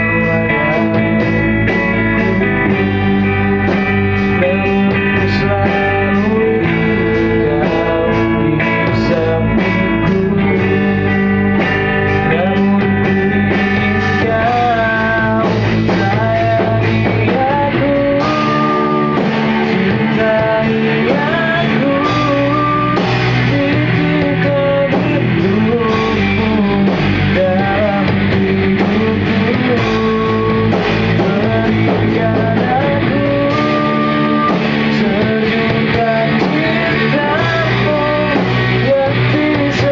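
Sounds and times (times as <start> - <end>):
gliding sung or lead melody: 0.0 - 39.9
rock band playing: 0.0 - 39.9.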